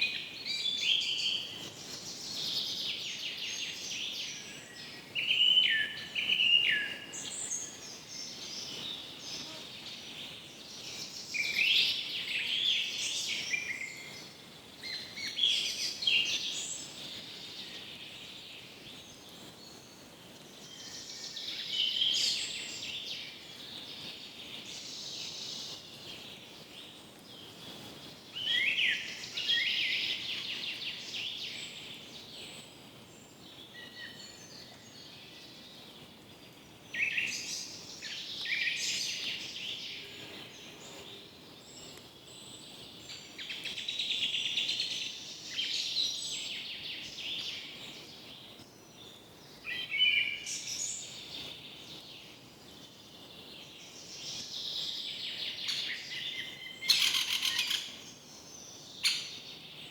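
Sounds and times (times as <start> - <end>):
faint forest background hiss: 0.0 - 59.9
forest birds chirping: 0.0 - 59.9.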